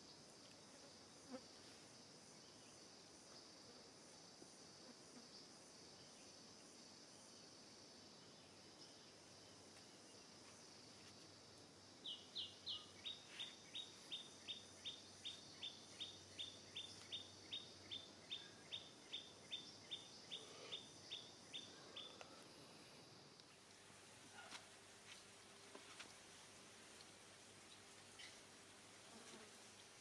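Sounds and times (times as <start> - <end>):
faint high insect hum: 0.0 - 30.0.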